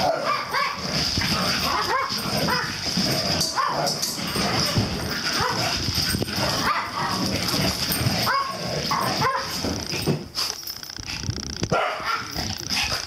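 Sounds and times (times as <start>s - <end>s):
dogs barking and yapping: 0.0s - 10.8s, 11.7s - 13.0s.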